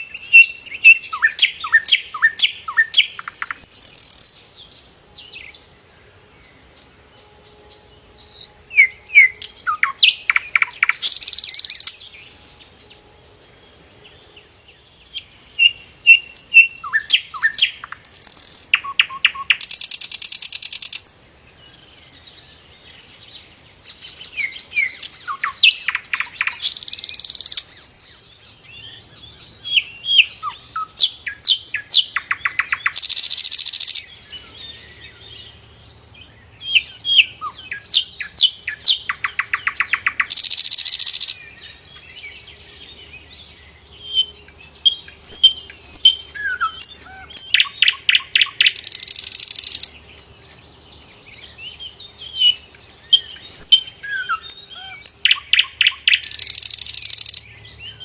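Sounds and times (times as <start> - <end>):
bird singing with buzzing rattle: 0.0 - 58.0.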